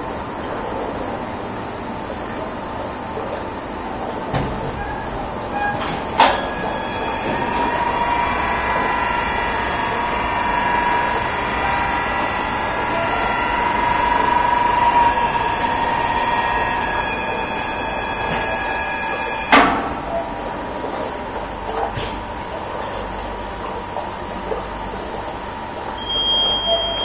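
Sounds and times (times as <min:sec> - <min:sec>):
machine noise with high tones: 0:03.4 - 0:23.8, 0:24.5 - 0:27.0.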